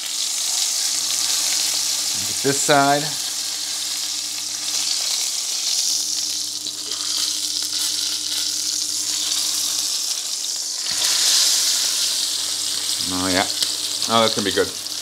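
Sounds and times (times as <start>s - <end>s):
steak sizzling in a pan: 0.0s - 15.0s
low hum: 0.9s - 9.9s, 11.0s - 14.1s.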